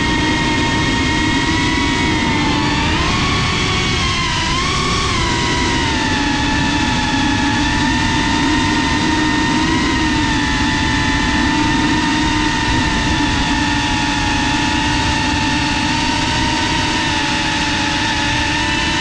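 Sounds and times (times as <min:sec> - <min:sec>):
drone motors whining: 0:00.0 - 0:19.0
wind rushing on microphone: 0:00.0 - 0:19.0.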